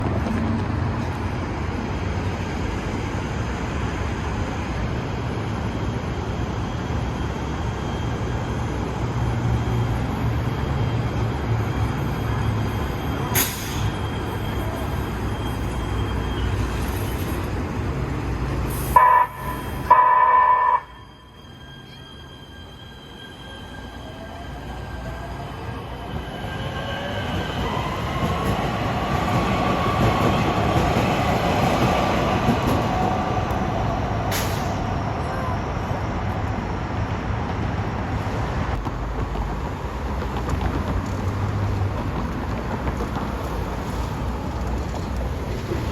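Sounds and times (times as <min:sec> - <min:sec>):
train rumbling on track: 0:00.0 - 0:45.9.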